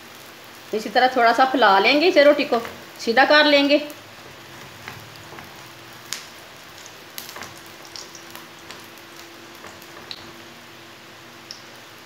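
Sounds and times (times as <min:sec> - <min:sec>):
oil sizzling in a frying pan: 0:00.0 - 0:12.0.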